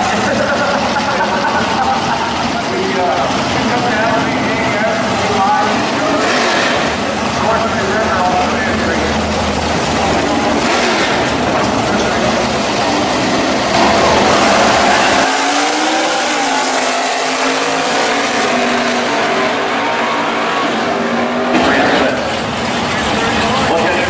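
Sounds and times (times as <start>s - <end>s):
drag car engines accelerating: 0.0s - 24.0s.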